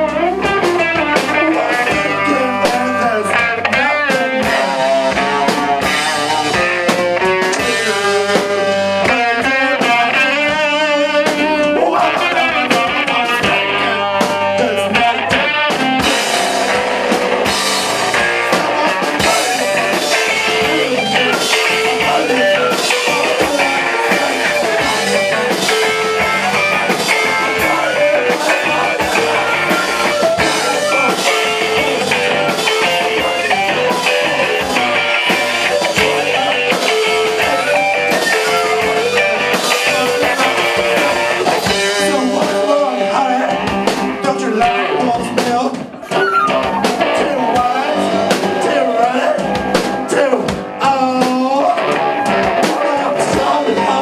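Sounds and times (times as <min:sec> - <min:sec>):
drum kit and cymbal hits: 0:00.0 - 0:54.0
electric guitar: 0:00.0 - 0:54.0
person singing: 0:00.0 - 0:54.0.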